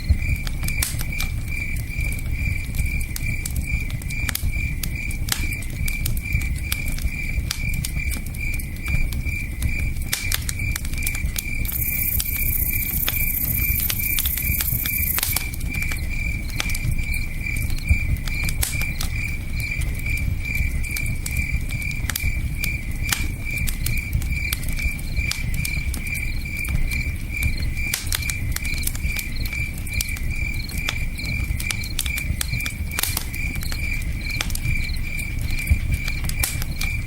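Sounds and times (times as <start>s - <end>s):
campfire crackling and popping: 0.0s - 37.0s
crickets chirping: 0.0s - 37.0s.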